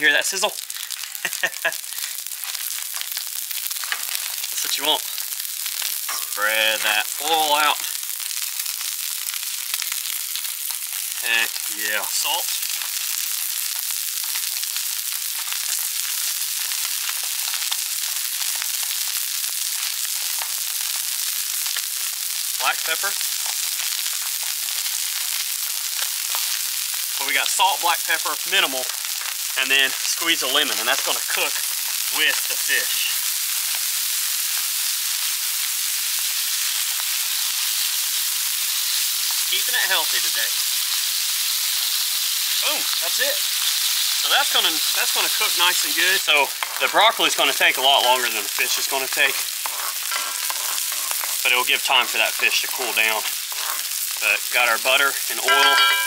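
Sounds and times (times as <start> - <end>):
small crackles and pops: 0.0 - 55.7
fish fillets sizzling on a griddle: 0.0 - 56.0.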